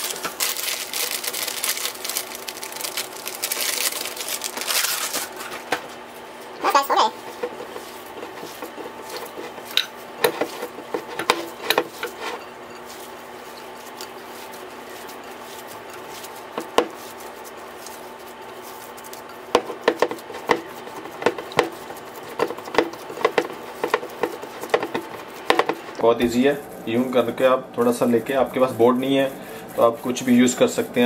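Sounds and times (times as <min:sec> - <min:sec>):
hands kneading wet meat: 0:00.0 - 0:31.0.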